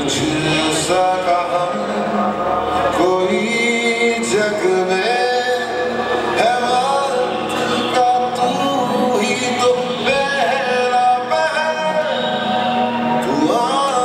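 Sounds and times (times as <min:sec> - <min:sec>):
man singing long held notes: 0:00.0 - 0:14.0.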